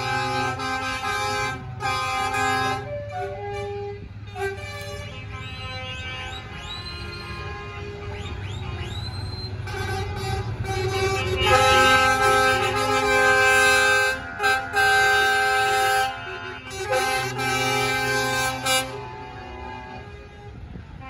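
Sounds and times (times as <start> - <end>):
diesel truck engine rumble: 0.0 - 21.0
truck air horn blasts: 0.0 - 21.0.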